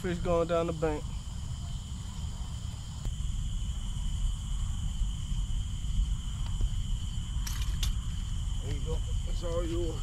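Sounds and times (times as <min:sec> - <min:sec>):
insects trilling: 0:00.0 - 0:10.0
low steady rumble: 0:00.0 - 0:10.0.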